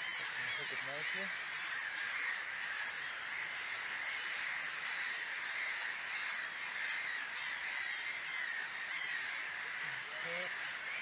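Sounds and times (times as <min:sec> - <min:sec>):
chorus of animal calls: 0:00.0 - 0:11.0.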